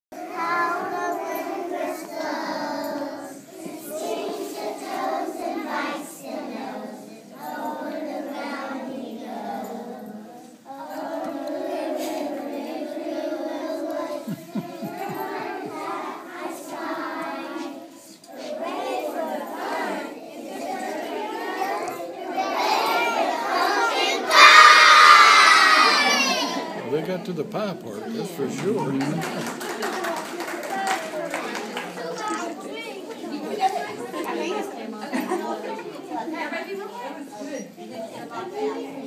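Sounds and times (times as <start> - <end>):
young children singing: 0.1 - 36.2, 37.8 - 39.0.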